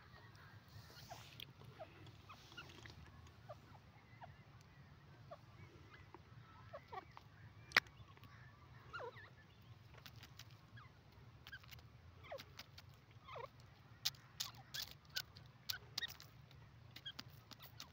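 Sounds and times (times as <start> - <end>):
faint steady hum: 0.0 - 17.9
pecking on stony ground: 0.0 - 17.9.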